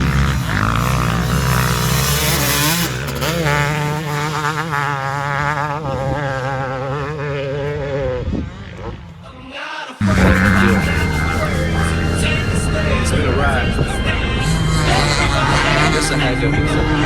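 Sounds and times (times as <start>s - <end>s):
motocross engine buzzing: 0.0s - 9.4s, 10.0s - 17.0s.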